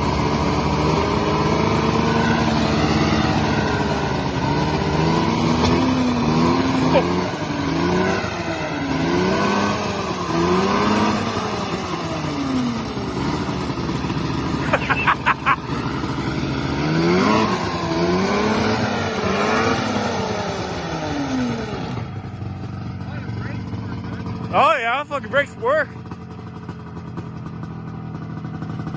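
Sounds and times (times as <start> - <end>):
snowmobile engine revving: 0.0 - 27.2.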